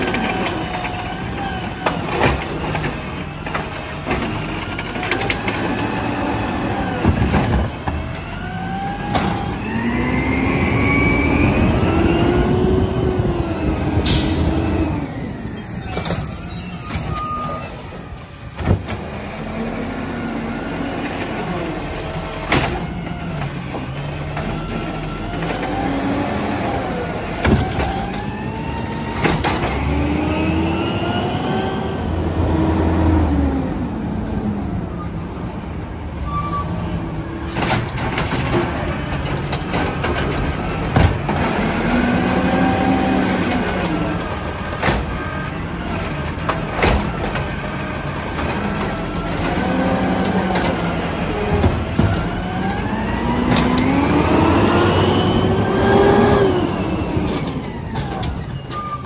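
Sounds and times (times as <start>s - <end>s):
garbage truck engine revving: 0.0s - 15.4s, 18.6s - 34.5s, 36.6s - 58.6s.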